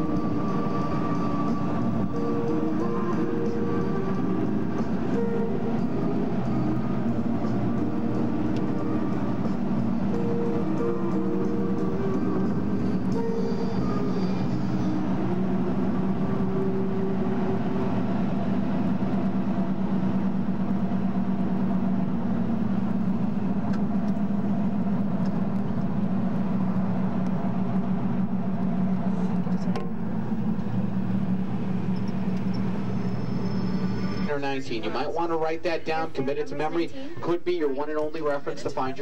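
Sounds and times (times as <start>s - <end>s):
tram engine and road drone: 0.0s - 39.0s.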